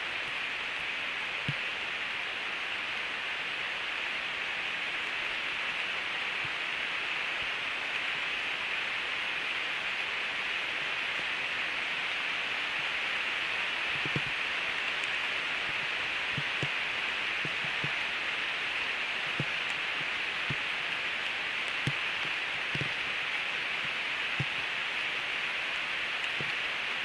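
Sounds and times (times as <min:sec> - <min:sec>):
heavy rain on forest canopy: 0:00.0 - 0:27.0.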